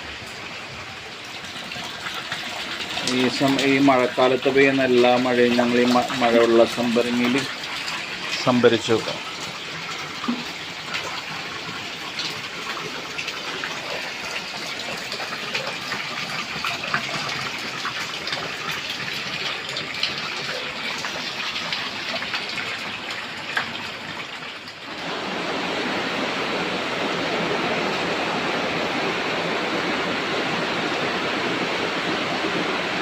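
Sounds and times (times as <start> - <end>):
rainwater gushing into pit: 0.0 - 33.0.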